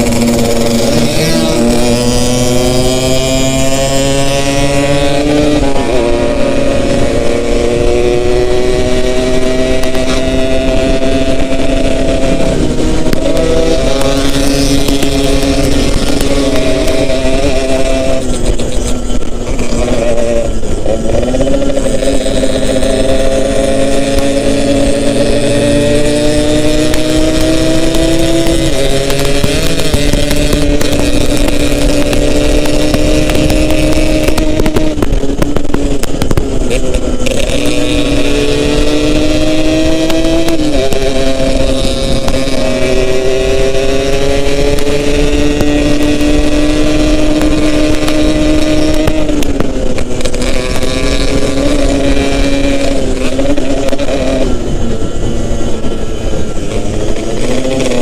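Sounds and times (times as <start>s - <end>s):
motorcycle engine pulling: 0.0s - 58.0s
wind and road noise: 0.0s - 58.0s.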